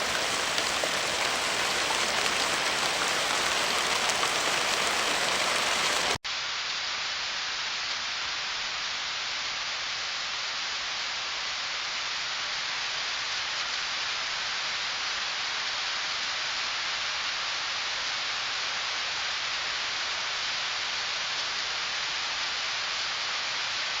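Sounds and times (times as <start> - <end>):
rain hiss: 0.0 - 24.0
steady heavy rain: 0.0 - 24.0.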